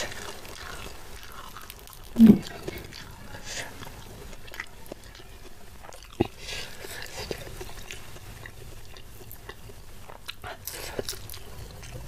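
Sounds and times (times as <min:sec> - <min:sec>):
person chewing wet smacking: 0:00.0 - 0:12.0.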